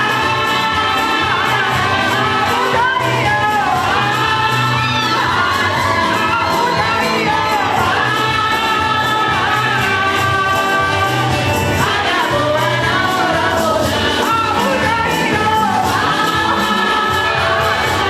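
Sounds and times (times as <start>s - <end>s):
choir singing a gospel hymn: 0.0s - 18.0s
percussion beat: 0.0s - 18.0s.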